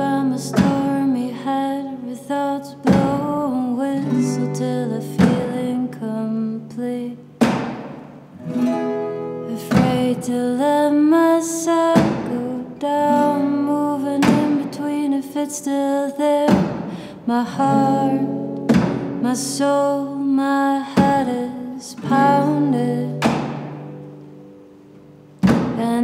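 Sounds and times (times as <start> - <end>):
strummed guitar chords: 0.0 - 26.0.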